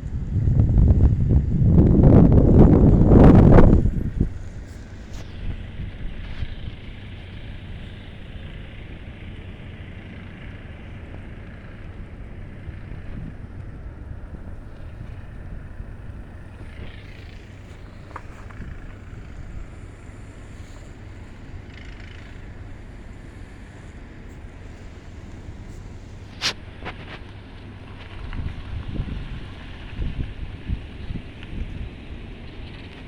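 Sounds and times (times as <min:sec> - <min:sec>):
wind buffeting microphone: 0:00.0 - 0:09.3, 0:11.6 - 0:33.0
snowstorm wind blowing: 0:00.0 - 0:33.0.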